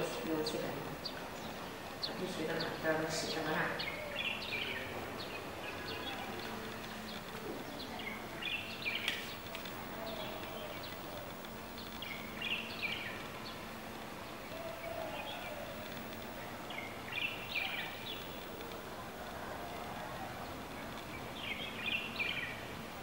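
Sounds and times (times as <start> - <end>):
small birds chirping: 0.0 - 22.9
faint background hum: 0.0 - 23.0.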